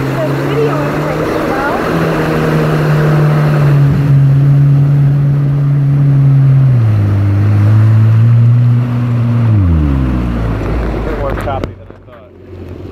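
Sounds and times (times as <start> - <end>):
jet ski engine running: 0.0 - 12.9.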